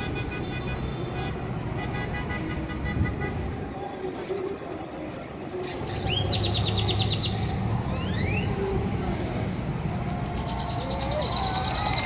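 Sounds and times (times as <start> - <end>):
crowd murmur: 0.0 - 12.0
traffic rumble: 0.0 - 12.0.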